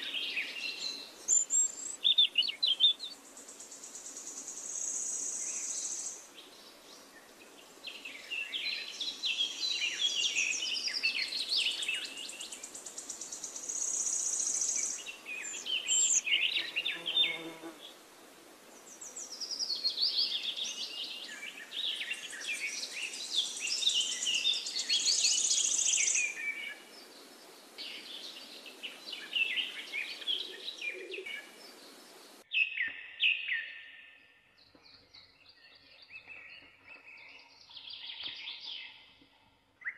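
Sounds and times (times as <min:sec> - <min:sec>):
birds chirping and singing: 0:00.0 - 0:03.5, 0:04.7 - 0:17.5, 0:18.9 - 0:39.9.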